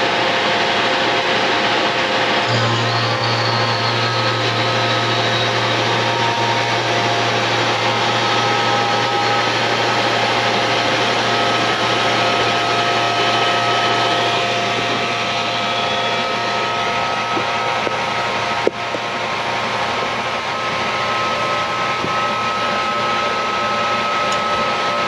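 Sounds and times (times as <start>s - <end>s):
vacuum pump humming: 2.4s - 25.0s.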